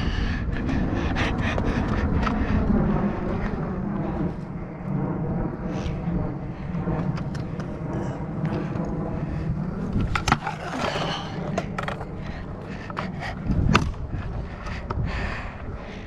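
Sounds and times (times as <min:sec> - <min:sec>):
scooter wheels rolling on concrete: 0:00.4 - 0:04.9, 0:05.5 - 0:16.0.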